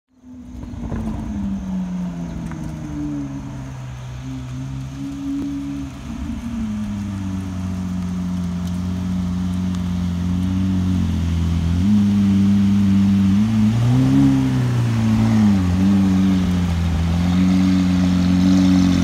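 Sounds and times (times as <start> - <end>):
sports car engine passing slowly: 0.2 - 19.0.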